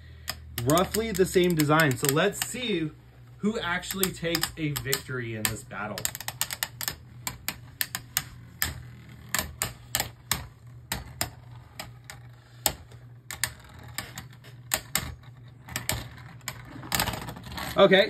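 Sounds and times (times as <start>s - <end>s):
low steady hum: 0.0s - 18.0s
spinning tops clacking together: 0.1s - 17.7s.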